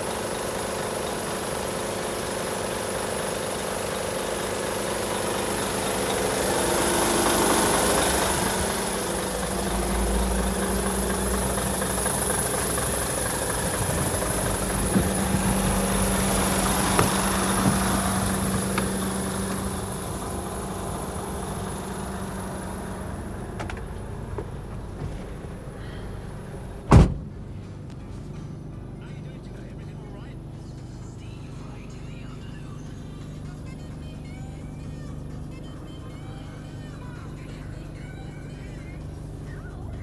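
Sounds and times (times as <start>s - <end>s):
truck diesel engine idling: 0.0s - 40.0s.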